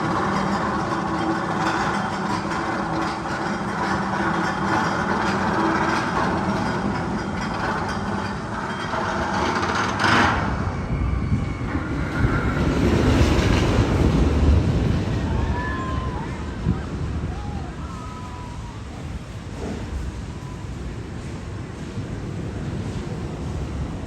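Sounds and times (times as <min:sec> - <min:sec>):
roller coaster rumbling clatter: 0:00.0 - 0:24.0.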